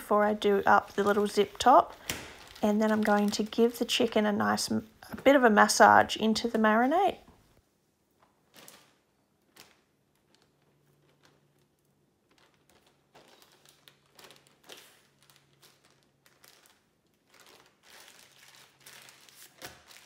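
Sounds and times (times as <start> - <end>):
plastic bag crinkling and squishing: 0.0 - 4.8, 8.2 - 20.0.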